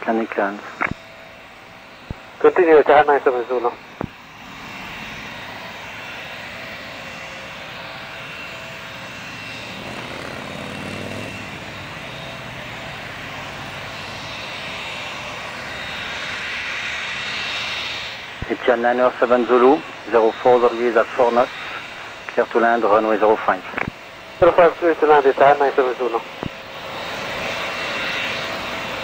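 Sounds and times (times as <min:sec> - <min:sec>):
jet engines with high whine: 0:00.0 - 0:29.0.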